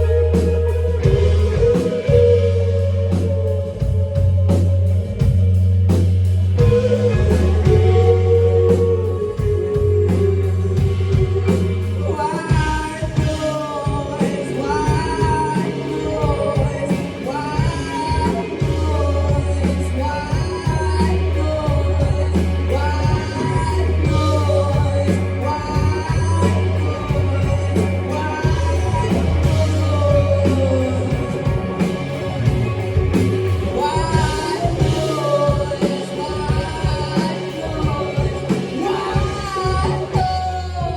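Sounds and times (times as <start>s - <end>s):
person singing: 0.0s - 5.5s, 6.4s - 40.9s
bass note: 0.0s - 40.9s
drums: 0.0s - 40.9s.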